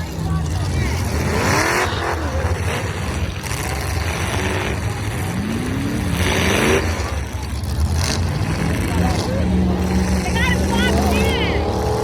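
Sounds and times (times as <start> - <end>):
engine revving up: 0.0 - 12.0
truck engines rumbling: 0.0 - 12.0.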